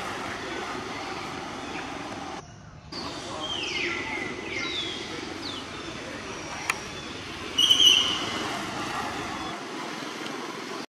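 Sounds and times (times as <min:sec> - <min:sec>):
outdoor background noise: 0:00.0 - 0:10.9.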